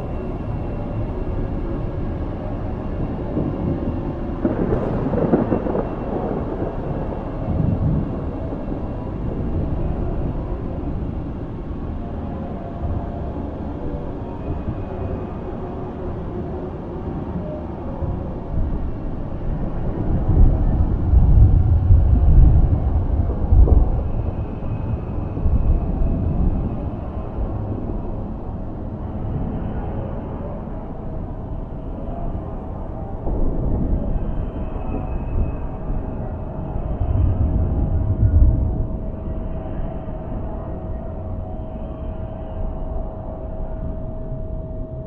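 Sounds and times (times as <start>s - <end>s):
rolling thunder: 0.0s - 15.5s, 16.2s - 45.0s
steady rain: 0.0s - 41.5s.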